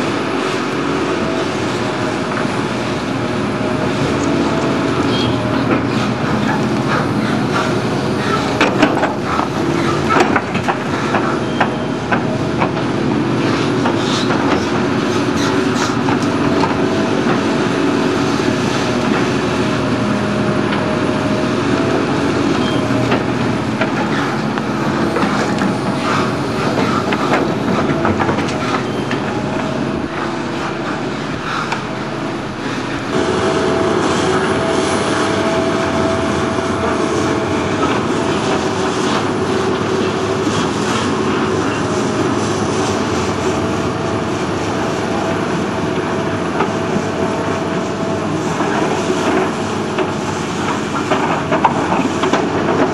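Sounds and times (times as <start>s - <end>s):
excavator engine whining: 0.0s - 52.9s.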